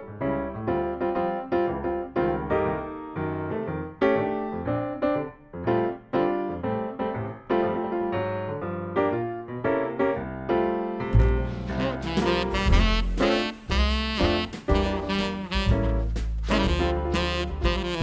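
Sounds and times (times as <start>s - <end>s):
bright piano tune: 0.0s - 18.0s.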